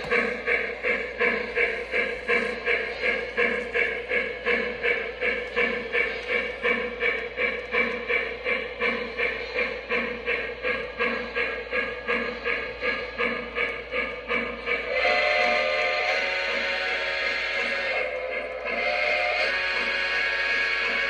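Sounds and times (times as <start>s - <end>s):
toy steam train chuffing: 0.0s - 21.0s.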